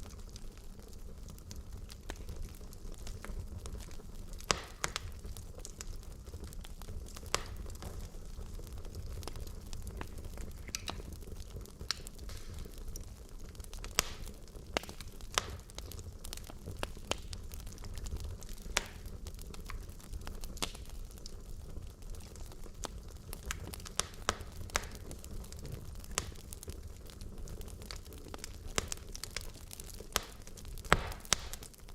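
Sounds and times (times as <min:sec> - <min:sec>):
fire rumbling: 0:00.0 - 0:31.9
logs crackling and popping: 0:00.0 - 0:31.9.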